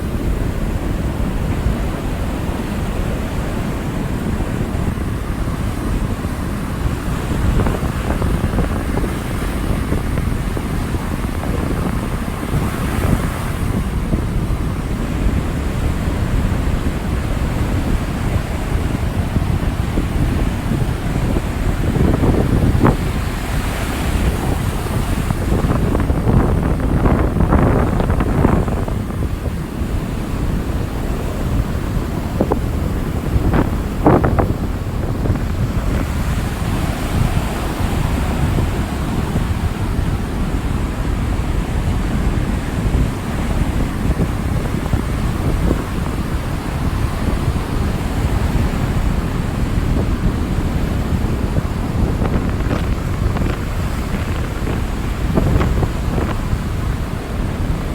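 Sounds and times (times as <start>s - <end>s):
waves breaking: 0.0s - 57.9s
wind rumble on microphone: 0.0s - 57.9s.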